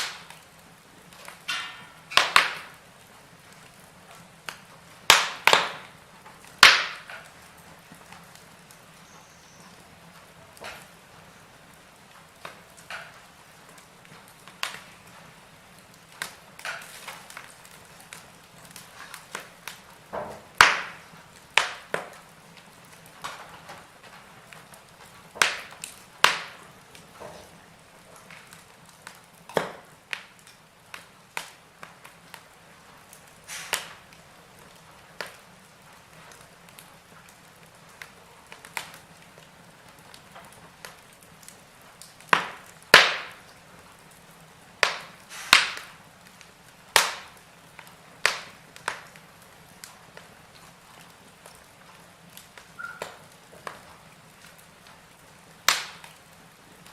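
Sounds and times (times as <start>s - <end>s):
faint steady hiss: 0.0s - 56.9s
logs crackling in fireplace: 0.0s - 56.9s.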